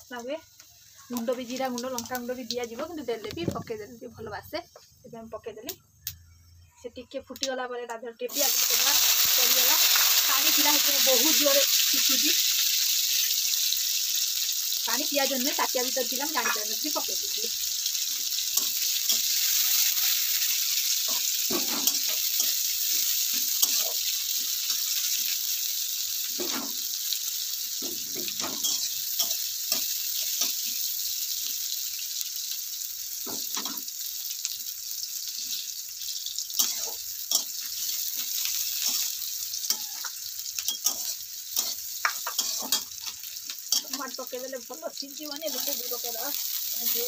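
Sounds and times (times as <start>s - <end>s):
onions sizzling in oil: 0.0s - 4.9s, 8.2s - 47.0s.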